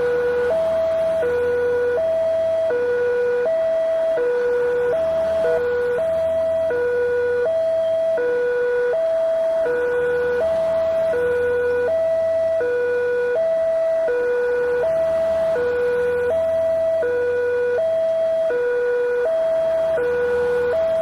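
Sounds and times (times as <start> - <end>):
two-tone crossing warning siren: 0.0 - 21.0.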